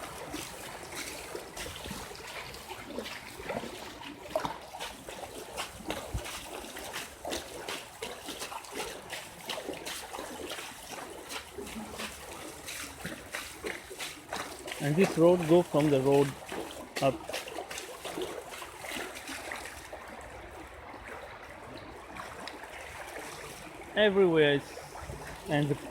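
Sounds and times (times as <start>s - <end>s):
floodwater running and splashing: 0.0s - 25.9s.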